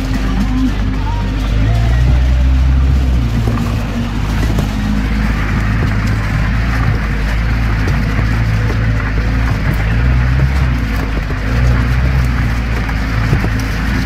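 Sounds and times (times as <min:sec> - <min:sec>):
small knocks: 0:00.0 - 0:14.0
tyre and body noise: 0:00.0 - 0:14.0
vehicle engine rumbling: 0:00.0 - 0:14.0.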